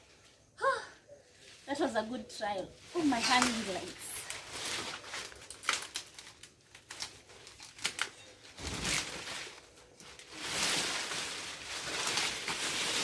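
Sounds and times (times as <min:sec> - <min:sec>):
rustling of dry stalks and leaves: 0:00.0 - 0:13.0.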